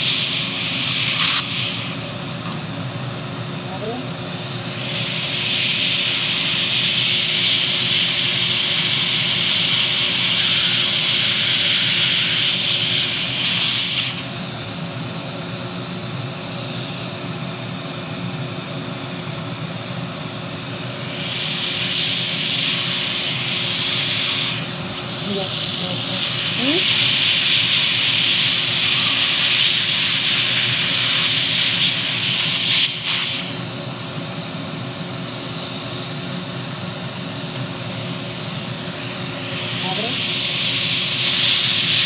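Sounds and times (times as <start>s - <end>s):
suction running: 0.0s - 14.8s, 20.5s - 42.0s
dental drill hissing: 0.0s - 14.9s, 20.2s - 42.0s.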